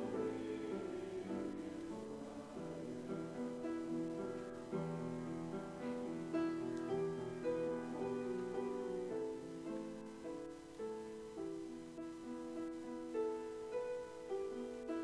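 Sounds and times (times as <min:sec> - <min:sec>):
slow instrumental keyboard music: 0:00.0 - 0:15.0.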